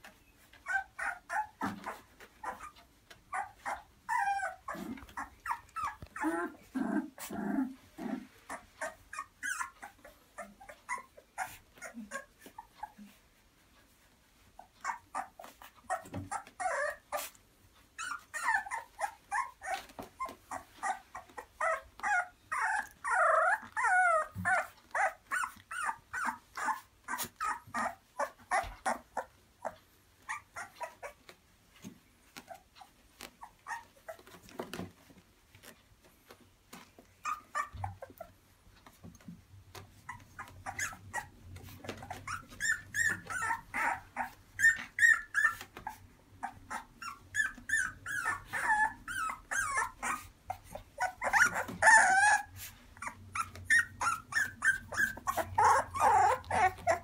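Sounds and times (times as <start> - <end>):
puppies crying: 0.4 - 13.1, 14.6 - 17.3, 18.0 - 31.4, 32.4 - 34.9, 36.7 - 38.4, 39.7 - 57.0.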